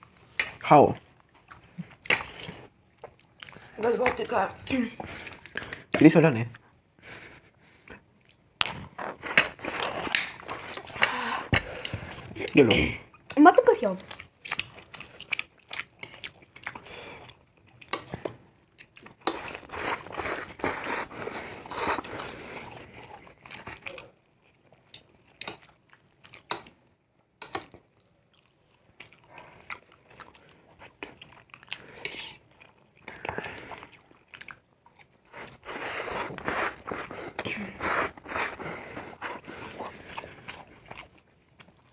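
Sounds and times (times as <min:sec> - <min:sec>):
people chewing noodles: 0:00.0 - 0:41.9.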